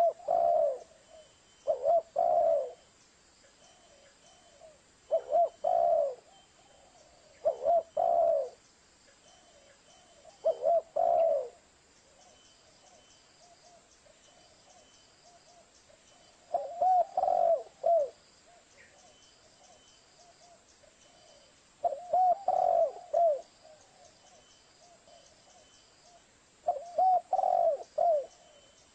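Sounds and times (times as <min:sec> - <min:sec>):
dove cooing: 0:00.0 - 0:02.9, 0:03.6 - 0:08.6, 0:09.3 - 0:28.8.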